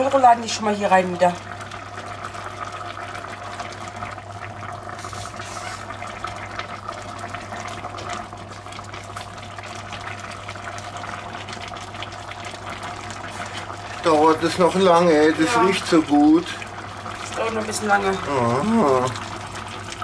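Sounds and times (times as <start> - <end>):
sauce bubbling in a pot: 0.0 - 20.0.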